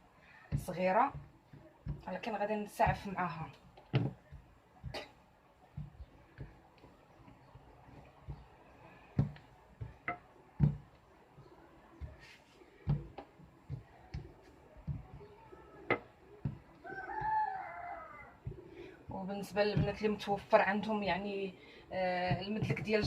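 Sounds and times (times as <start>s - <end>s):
rolling pin on tiled worktop: 0.4s - 23.0s.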